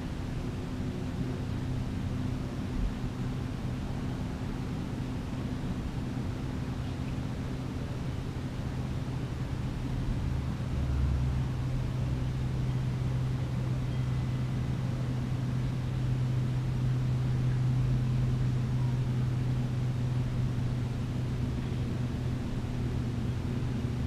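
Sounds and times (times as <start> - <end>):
faint background hiss: 0.0 - 24.0
low mechanical hum: 0.0 - 24.0.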